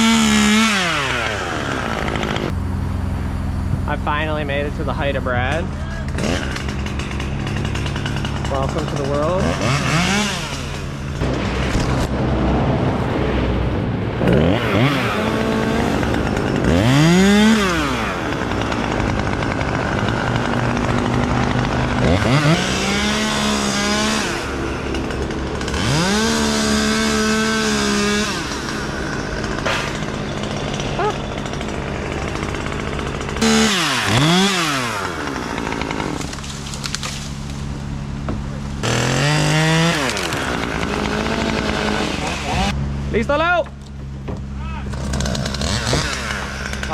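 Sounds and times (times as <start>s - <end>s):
chainsaw revving and cutting: 0.0s - 2.6s, 5.0s - 12.5s, 14.2s - 37.7s, 38.8s - 42.8s, 44.9s - 46.9s.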